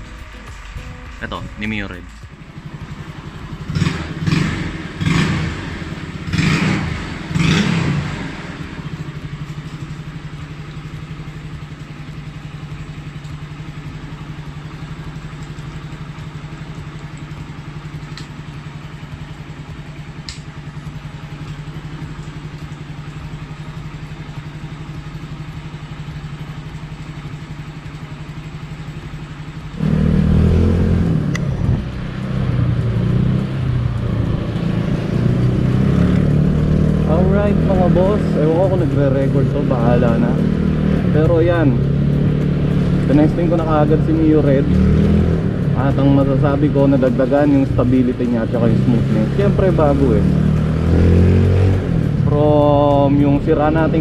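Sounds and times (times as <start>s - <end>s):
scooter engine revving and idling: 0.0s - 54.0s.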